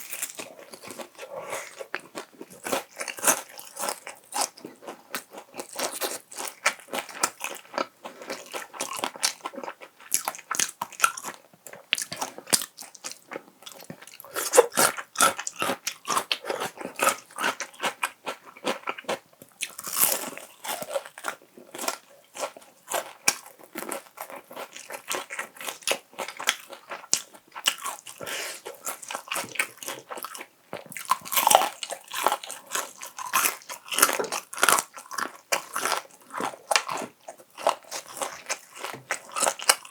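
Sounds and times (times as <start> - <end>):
crunching fried chicken: 0.0 - 11.4, 12.0 - 39.9.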